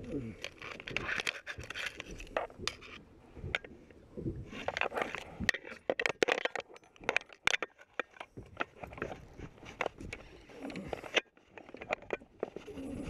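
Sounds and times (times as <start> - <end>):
handling clicks knocks and scrapes: 0.0 - 13.0.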